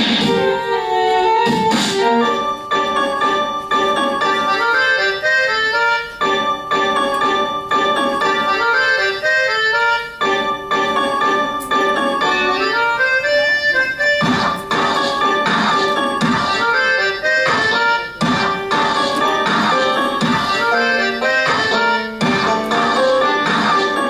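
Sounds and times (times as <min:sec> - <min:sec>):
keyboard melody: 0:00.0 - 0:24.0.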